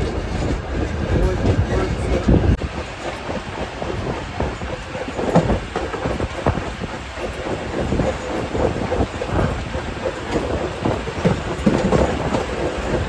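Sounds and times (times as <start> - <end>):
wheels clattering over rail joints: 0.0 - 13.0.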